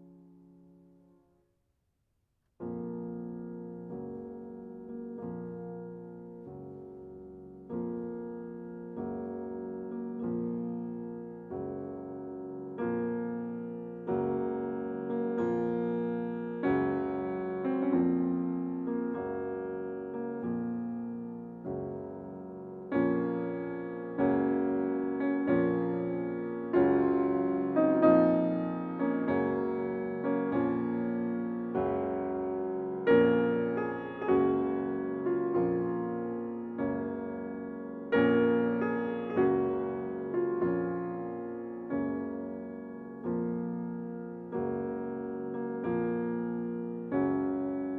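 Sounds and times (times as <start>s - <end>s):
slow gentle piano chords: 0.0s - 1.2s, 2.6s - 47.9s.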